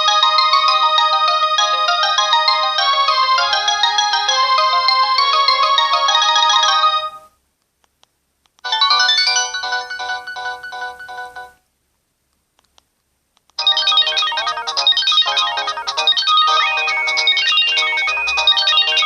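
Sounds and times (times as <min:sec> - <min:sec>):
mobile phone ringtones: 0:00.0 - 0:07.3, 0:08.6 - 0:11.6, 0:13.6 - 0:19.0.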